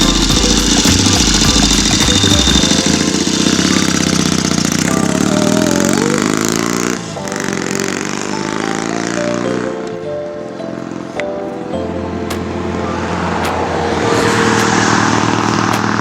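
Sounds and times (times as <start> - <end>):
motorcycle engine revving: 0.0 - 10.0, 12.2 - 16.0.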